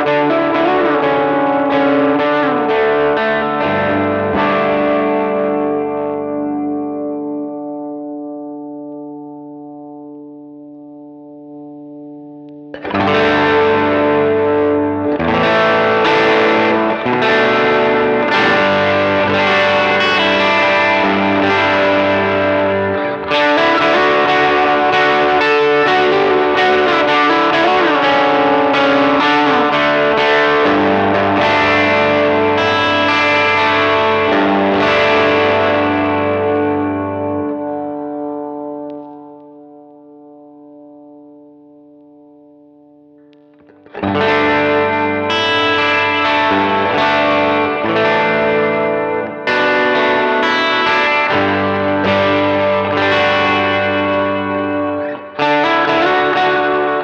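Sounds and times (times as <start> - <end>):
overdriven electric guitar chords: 0.0 - 57.0.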